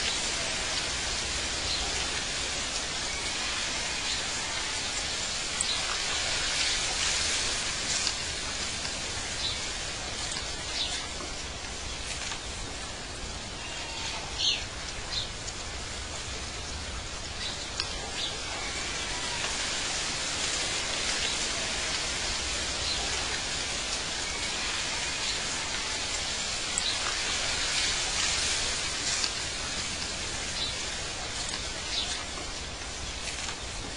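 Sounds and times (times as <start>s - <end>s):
steady hiss: 0.0s - 33.9s.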